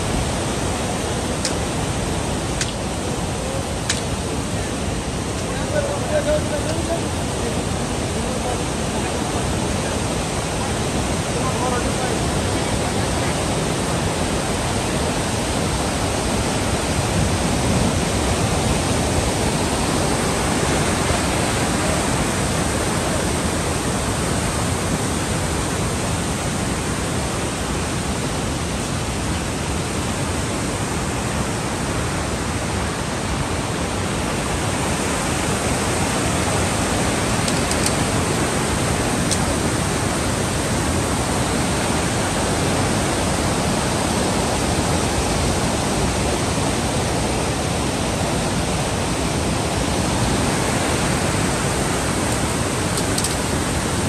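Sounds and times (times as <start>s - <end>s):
river rushing over boulders: 0.0s - 54.0s.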